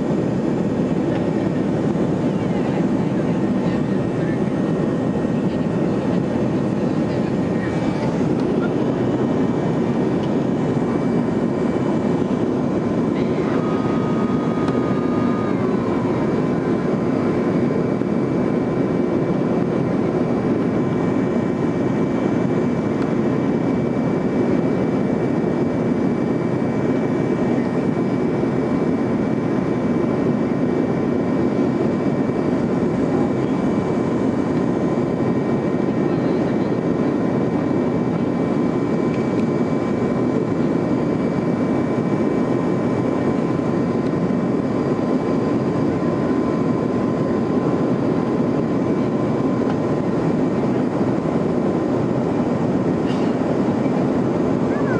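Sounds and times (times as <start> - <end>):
high engine whine: 0.0 - 54.9
jet engine rumble in cabin: 0.0 - 54.9.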